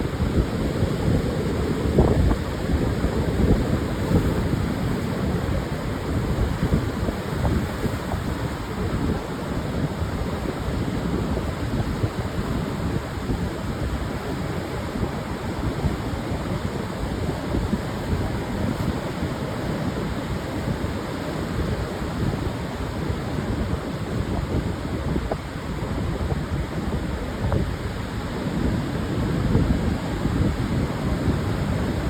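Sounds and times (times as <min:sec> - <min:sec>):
surf washing onto beach: 0:00.0 - 0:32.0
wind on microphone: 0:00.0 - 0:32.0.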